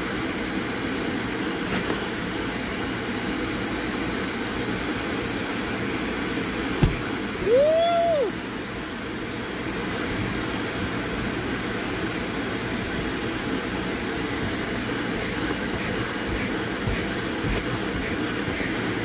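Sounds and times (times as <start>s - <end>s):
blower fan rushing hum: 0.0s - 19.0s.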